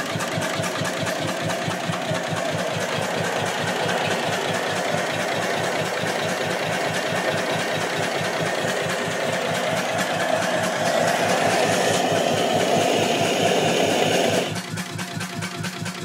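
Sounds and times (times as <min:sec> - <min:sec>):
hot-bulb oil engine running: 0:00.0 - 0:16.0.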